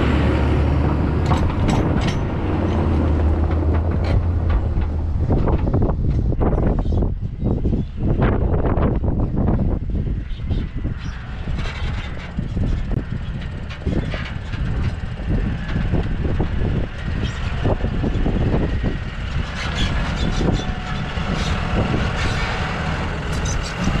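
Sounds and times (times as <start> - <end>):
tractor engine running: 0.0 - 24.0
trailer clanking and rattling: 0.0 - 24.0.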